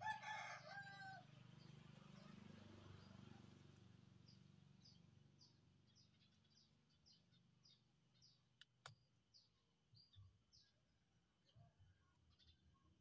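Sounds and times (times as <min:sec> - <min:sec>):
bird chirping: 0:01.6 - 0:13.0.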